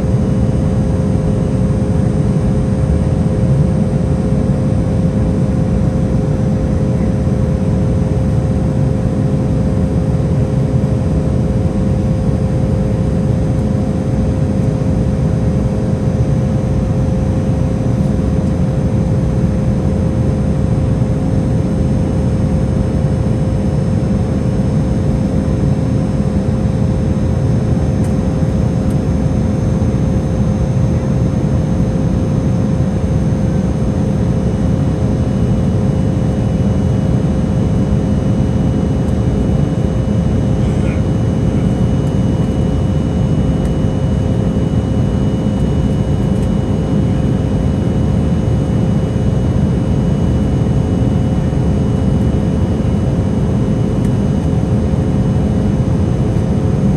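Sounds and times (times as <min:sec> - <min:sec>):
airliner cabin engine rush: 0:00.0 - 0:56.9.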